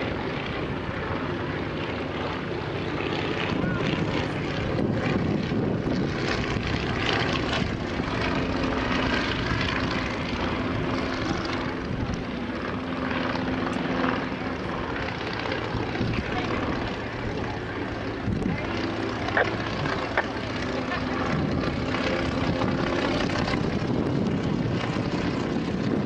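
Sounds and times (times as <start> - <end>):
propeller planes droning overhead: 0.0 - 26.0
steady engine hum: 0.0 - 26.0.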